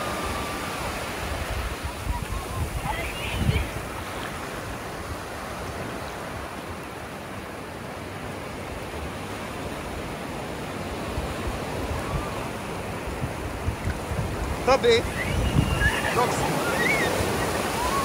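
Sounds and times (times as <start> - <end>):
waves breaking on beach: 0.0 - 18.0.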